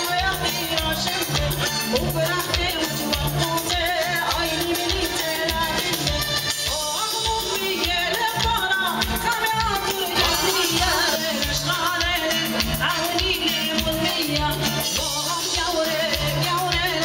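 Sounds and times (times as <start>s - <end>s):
electronic keyboard and drums: 0.0s - 17.0s
woman singing into a microphone: 0.0s - 17.0s.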